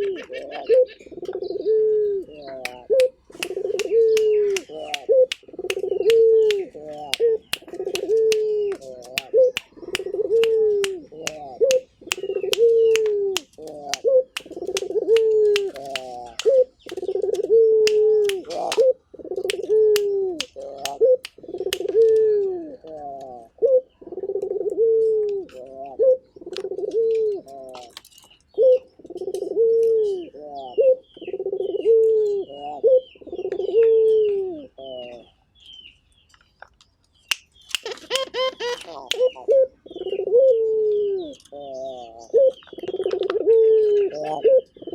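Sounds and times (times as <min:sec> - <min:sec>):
dove cooing: 0:00.0 - 0:35.4, 0:37.8 - 0:44.9.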